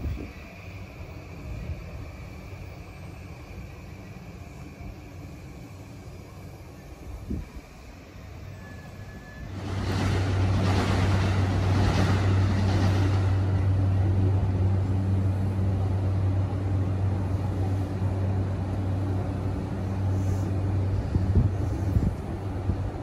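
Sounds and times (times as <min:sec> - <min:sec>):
electric train humming: 0:00.0 - 0:23.0
rush of hissing noise: 0:00.0 - 0:23.0.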